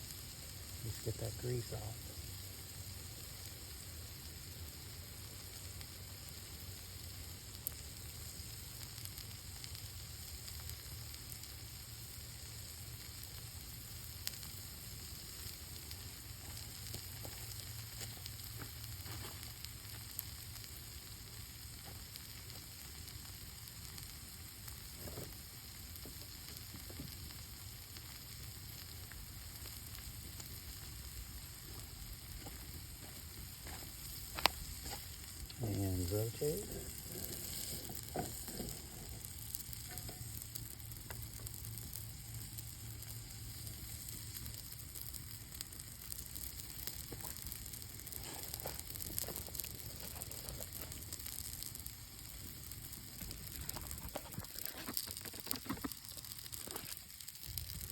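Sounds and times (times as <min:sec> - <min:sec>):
campfire crackles: 0:00.0 - 0:57.9
food sizzling: 0:00.0 - 0:57.9.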